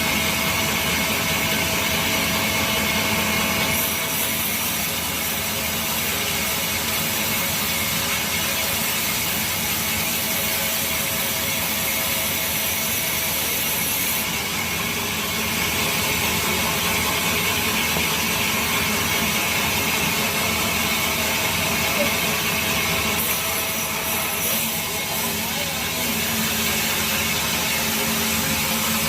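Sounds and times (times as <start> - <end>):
sawmill saw cutting log: 0.0 - 29.0.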